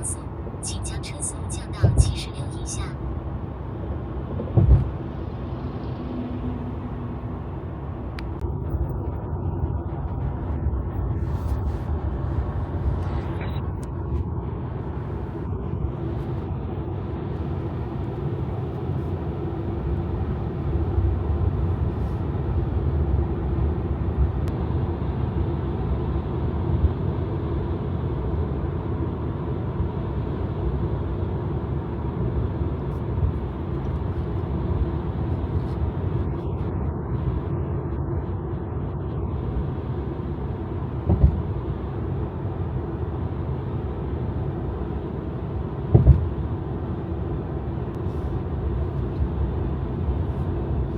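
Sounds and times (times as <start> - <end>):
road and tyre rumble: 0.0 - 50.9.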